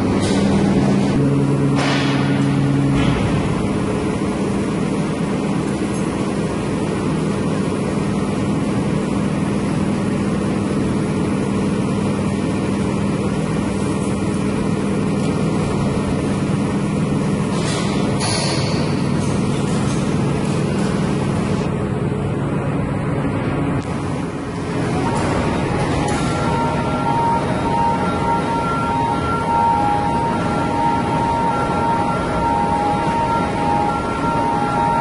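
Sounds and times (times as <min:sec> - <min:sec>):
metal bending machine humming: 0:00.0 - 0:35.0.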